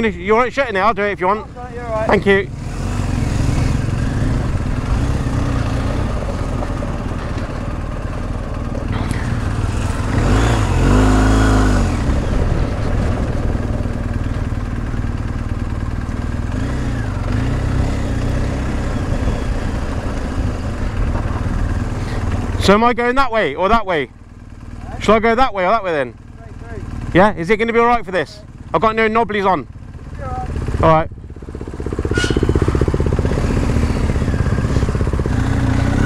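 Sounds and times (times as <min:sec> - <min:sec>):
motorcycle engine revving: 0:00.0 - 0:36.0
motorcycle engines idling: 0:00.0 - 0:36.0.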